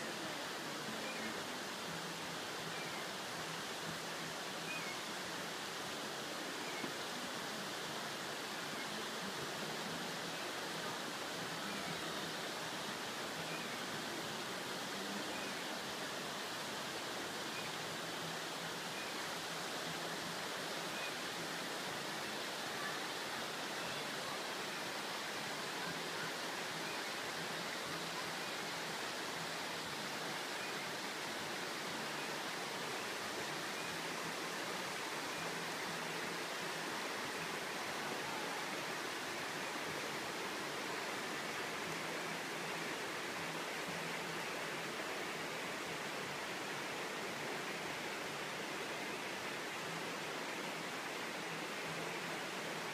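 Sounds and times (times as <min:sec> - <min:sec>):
creek rushing over stones: 0:00.0 - 0:52.9.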